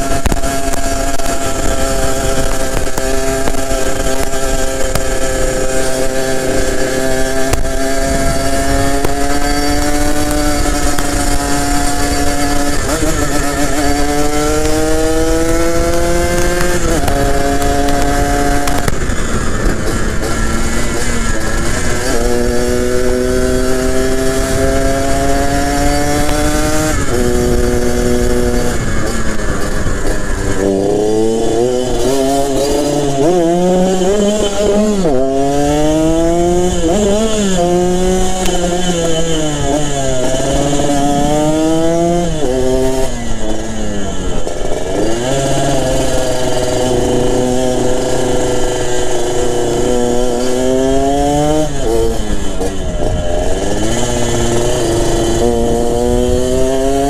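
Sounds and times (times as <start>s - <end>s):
two-stroke motorcycle engine revving: 0.0s - 57.0s
wind buffeting microphone: 0.0s - 57.0s.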